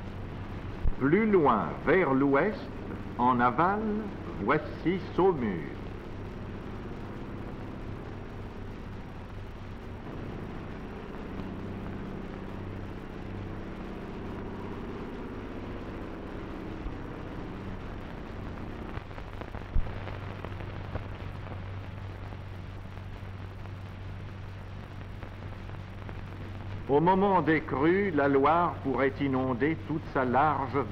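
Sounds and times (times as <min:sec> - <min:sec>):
film soundtrack hiss: 0:00.0 - 0:30.9
low hum: 0:00.0 - 0:30.9.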